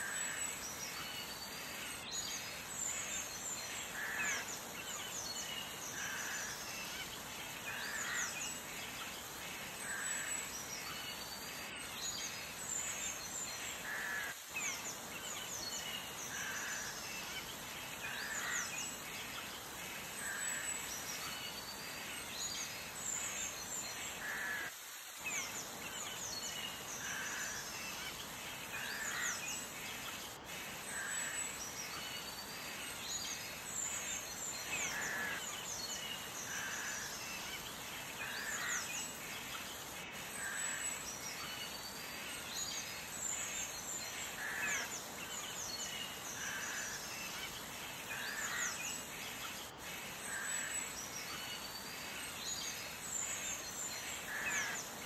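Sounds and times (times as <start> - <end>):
bird calls: 0.0 - 55.0
steady hiss: 0.0 - 55.0.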